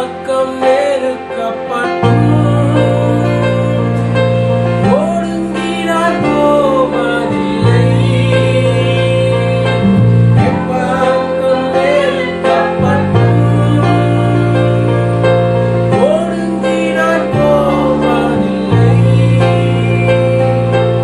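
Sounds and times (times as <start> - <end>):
person singing: 0.0 - 21.0
steady bass: 0.0 - 21.0
sustained instrumental accompaniment: 0.0 - 21.0.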